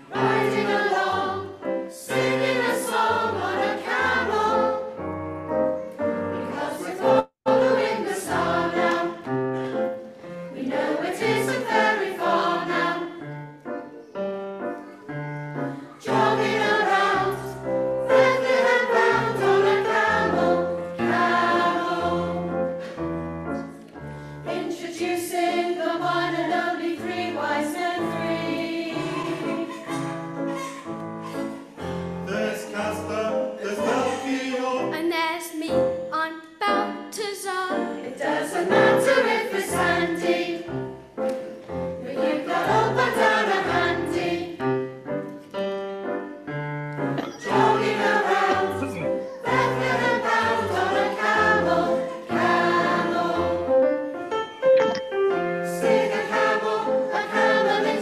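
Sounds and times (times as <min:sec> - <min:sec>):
church choir singing a carol: 0:00.0 - 0:05.1, 0:05.9 - 0:13.5, 0:15.4 - 0:23.0, 0:23.6 - 0:30.8, 0:31.5 - 0:35.0, 0:37.9 - 0:41.0, 0:41.7 - 0:44.9, 0:47.2 - 0:54.2, 0:55.6 - 0:58.0.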